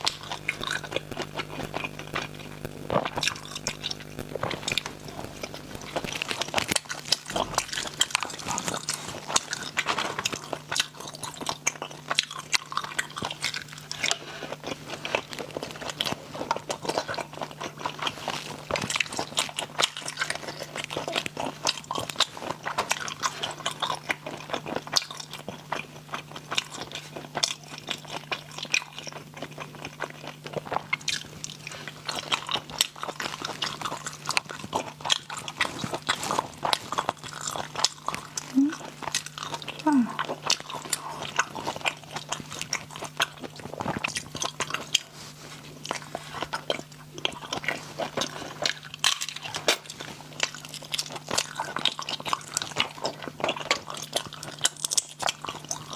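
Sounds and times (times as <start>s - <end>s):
chewing and smacking mouth sounds: 0.0s - 55.9s
steady low hum: 0.0s - 55.9s.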